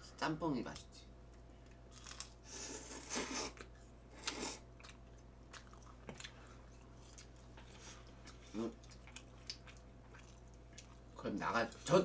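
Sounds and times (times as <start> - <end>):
quiet chewing: 1.3 - 12.0.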